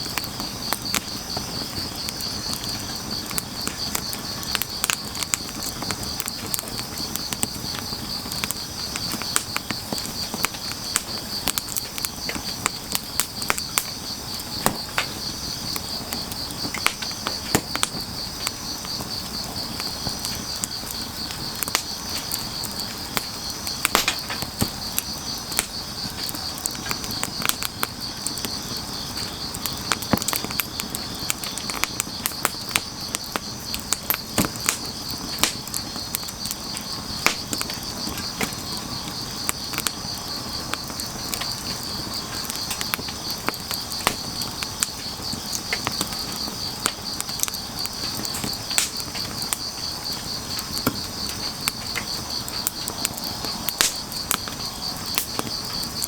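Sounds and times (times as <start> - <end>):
crickets chirring: 0.0 - 56.0
wood fire crackling and popping: 0.0 - 56.0.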